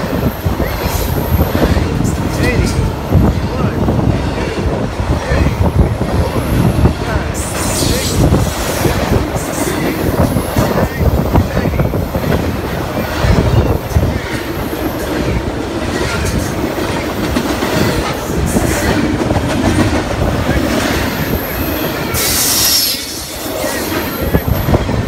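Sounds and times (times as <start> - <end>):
freight train rumble and clatter: 0.0 - 25.0.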